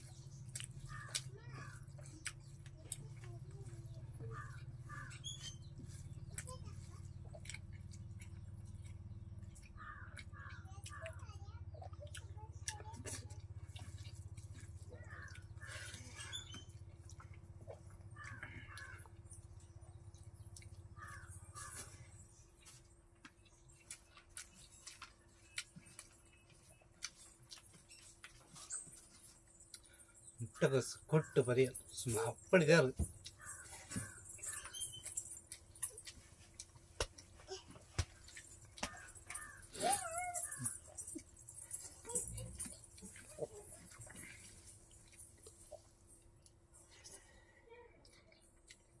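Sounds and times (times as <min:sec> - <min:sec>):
wet chewing: 0:00.0 - 0:47.4, 0:48.0 - 0:49.0.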